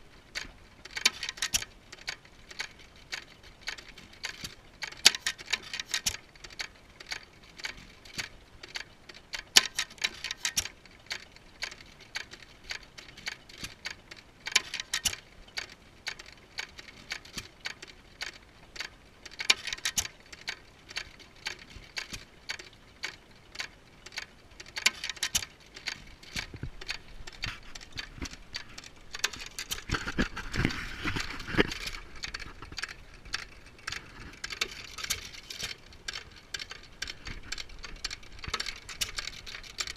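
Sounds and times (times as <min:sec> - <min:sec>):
old engines clicking and ticking: 0:00.0 - 0:39.9.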